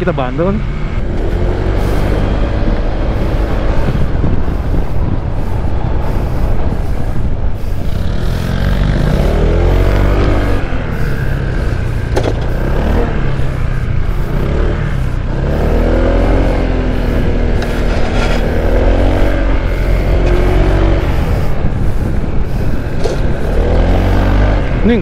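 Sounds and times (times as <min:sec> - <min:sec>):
scooter engine running: 0:00.0 - 0:25.0
wind on microphone: 0:00.8 - 0:25.0.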